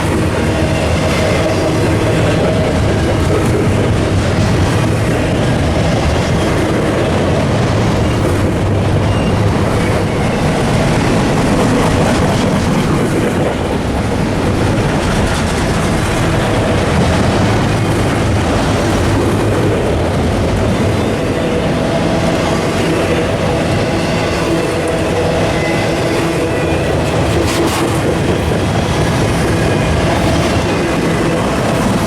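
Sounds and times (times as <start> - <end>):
train rumbling on rails: 0.0 - 32.0
wheels clattering on rails: 0.0 - 32.0.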